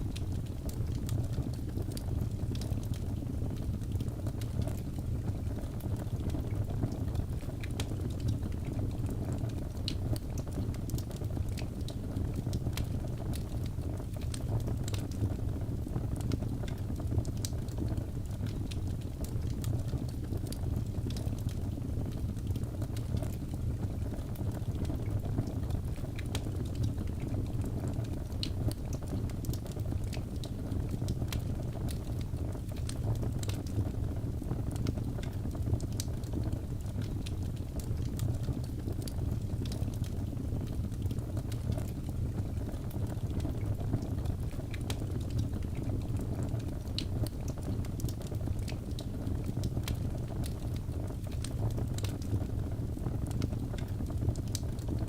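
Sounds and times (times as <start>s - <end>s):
flames rumbling in fireplace: 0.0s - 55.0s
logs popping and crackling: 0.0s - 55.0s.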